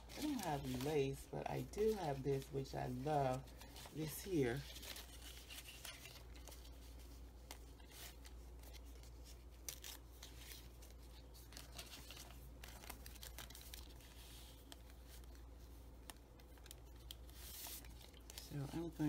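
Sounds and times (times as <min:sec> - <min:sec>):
low steady hum: 0:00.0 - 0:19.0
paper rustling and sliding: 0:00.0 - 0:19.0.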